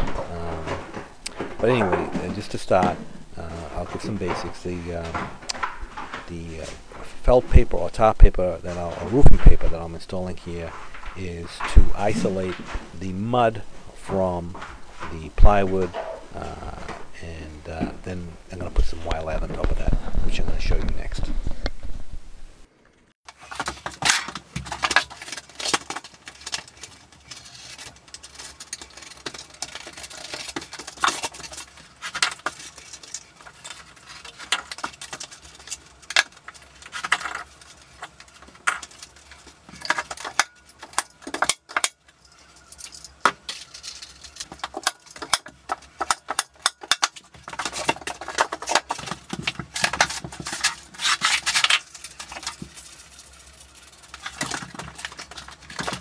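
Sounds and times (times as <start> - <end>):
roofing felt rustling and crinkling: 0.0 - 22.6, 23.3 - 56.0.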